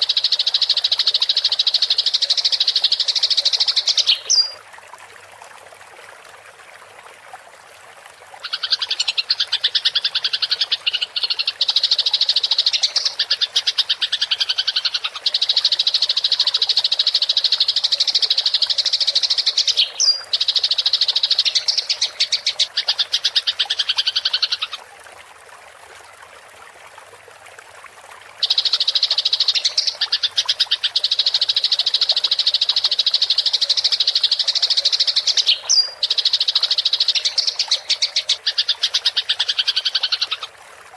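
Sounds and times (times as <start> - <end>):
faint trickle of water: 0.0 - 40.9.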